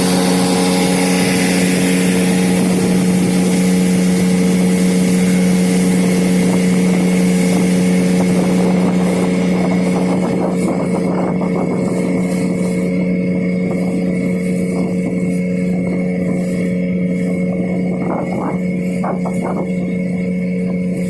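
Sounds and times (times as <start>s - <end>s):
boat hull on water: 0.0s - 21.0s
outboard motor running: 0.0s - 21.0s.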